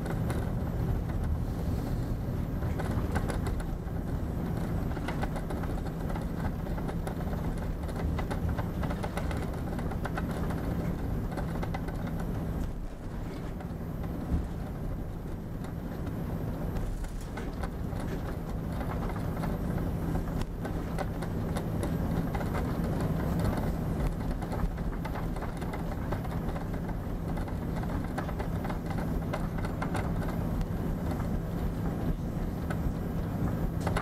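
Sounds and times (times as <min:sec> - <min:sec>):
aircraft engines idling: 0:00.0 - 0:34.0
constant low hum: 0:00.0 - 0:34.0
wheels rolling on concrete: 0:00.0 - 0:34.0.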